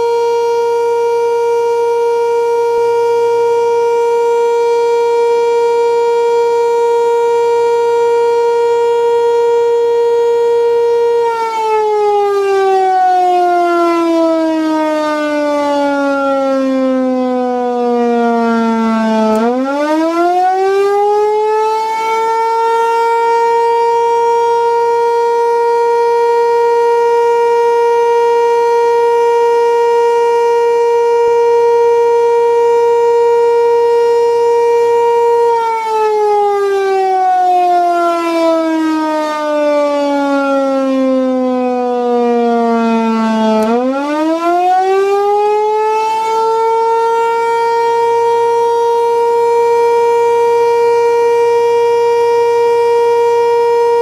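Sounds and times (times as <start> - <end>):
tornado siren wailing: 0.0 - 54.0.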